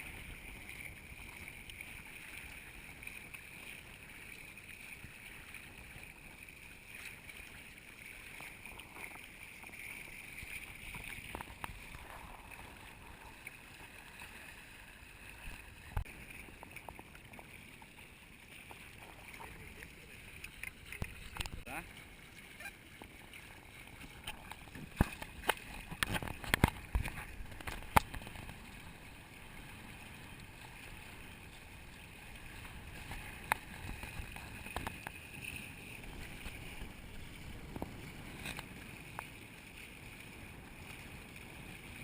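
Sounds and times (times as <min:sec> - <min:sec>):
muffled water and wind noise: 0:00.0 - 0:42.0.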